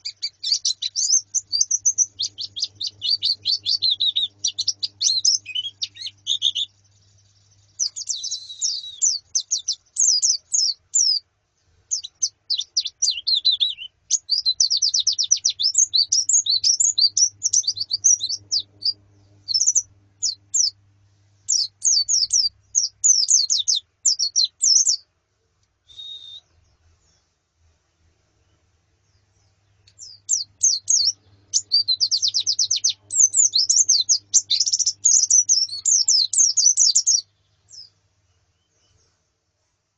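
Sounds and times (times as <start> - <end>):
birds twittering: 0.0 - 11.2, 11.9 - 20.8, 21.5 - 25.0, 28.4 - 39.1.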